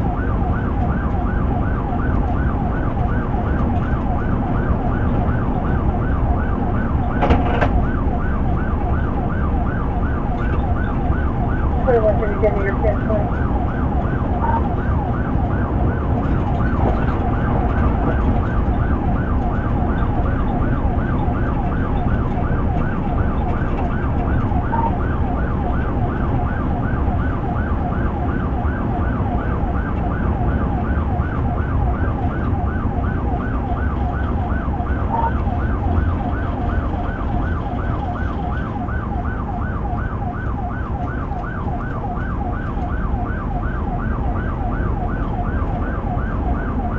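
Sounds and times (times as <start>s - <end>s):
engine and road rumble: 0.0s - 46.9s
police siren yelping: 0.0s - 46.9s.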